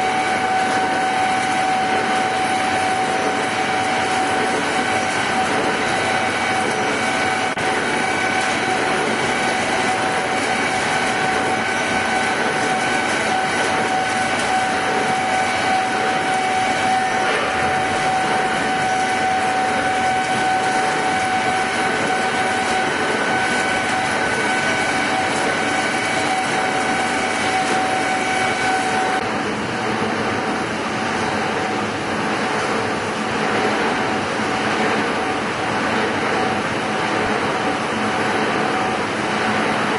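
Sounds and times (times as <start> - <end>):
high-pitched machine whine: 0.0 - 39.9
lathe machine noise: 0.0 - 39.9.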